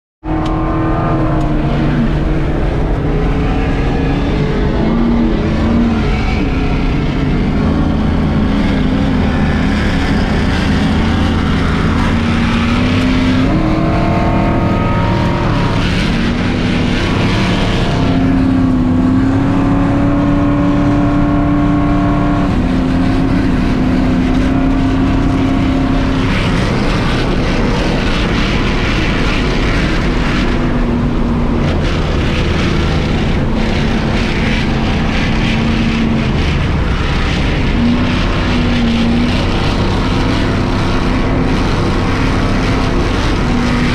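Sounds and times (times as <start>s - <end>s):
truck engine revving hard: 0.2s - 43.9s.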